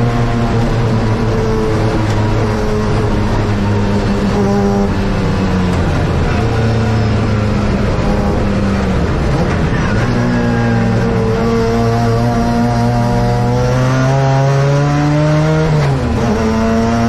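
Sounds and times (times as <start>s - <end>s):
race car engine running hard: 0.0s - 17.0s.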